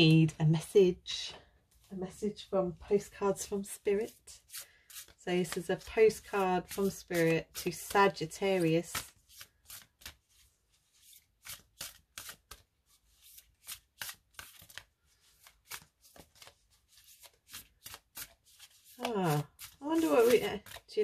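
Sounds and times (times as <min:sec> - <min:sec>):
cards being shuffled by hand: 0:04.1 - 0:21.0.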